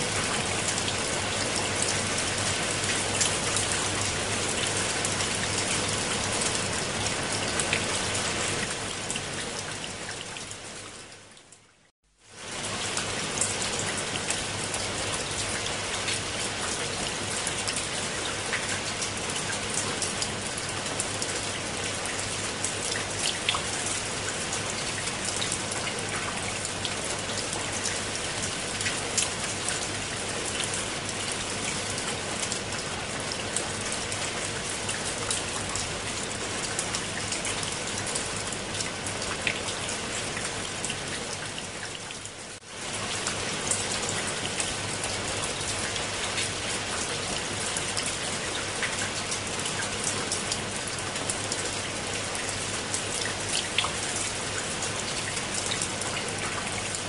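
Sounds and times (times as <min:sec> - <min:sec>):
rain on leaves and concrete: 0:00.0 - 0:57.0.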